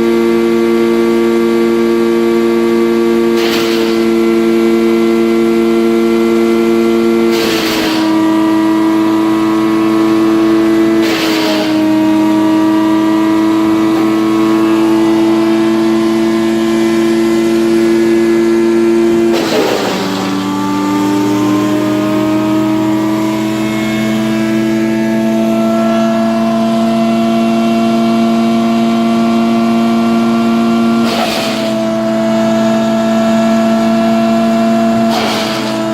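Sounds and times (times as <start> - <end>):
wood chipper engine running: 0.0 - 35.9
crunching of material in chipper: 2.8 - 27.4, 29.3 - 35.9.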